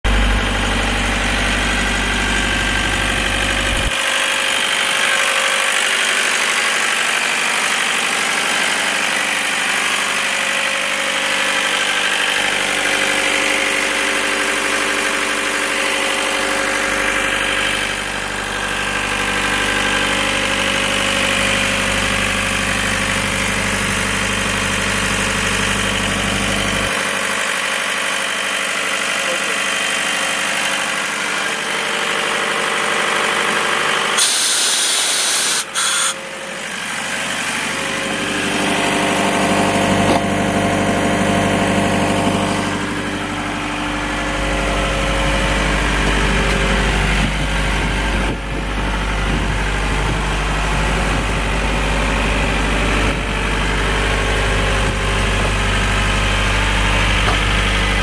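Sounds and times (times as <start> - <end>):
diesel compressor engine idling: 0.0 - 58.0.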